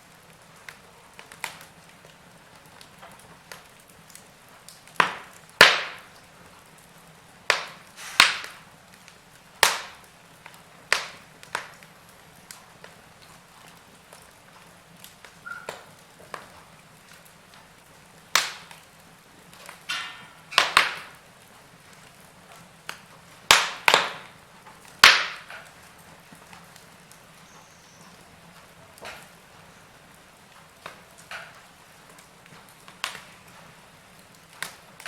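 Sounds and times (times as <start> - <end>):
faint steady hiss: 0.0 - 35.0
wood fire crackling: 0.0 - 35.0.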